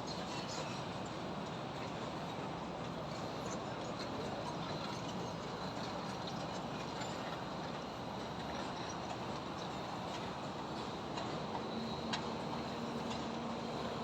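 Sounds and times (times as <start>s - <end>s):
construction site noise: 0.0s - 14.0s.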